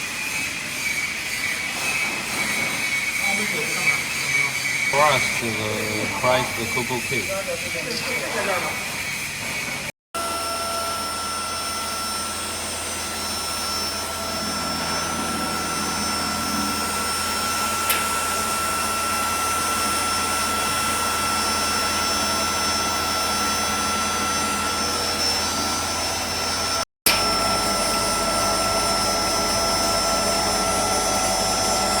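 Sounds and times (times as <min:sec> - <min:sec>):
mill whirring with high whine: 0:00.0 - 0:32.0.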